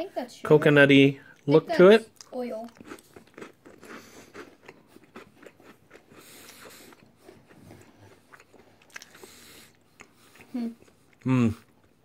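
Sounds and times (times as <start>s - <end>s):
biscuits crunching while chewed: 2.1s - 12.0s.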